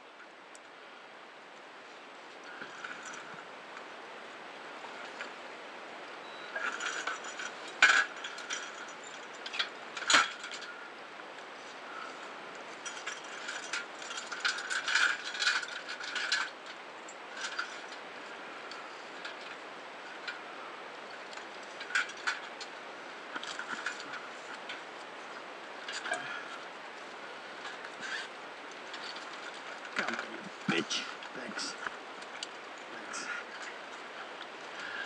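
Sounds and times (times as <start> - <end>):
steady background hiss: 0.0 - 35.0
scuba gear clanking and rattling: 2.3 - 3.5, 6.3 - 35.0.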